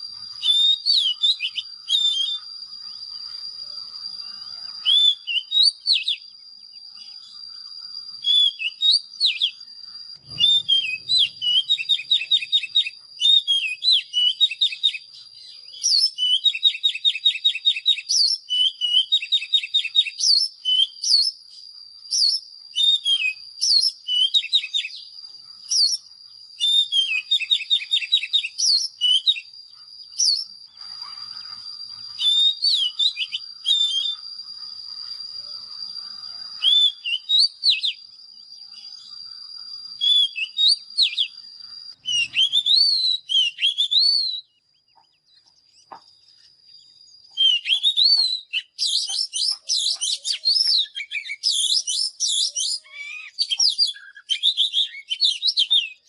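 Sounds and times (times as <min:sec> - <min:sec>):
bird singing whistled phrases: 0:00.0 - 0:45.1, 0:45.7 - 0:56.0
steady high whistle-like tone: 0:00.0 - 0:56.0.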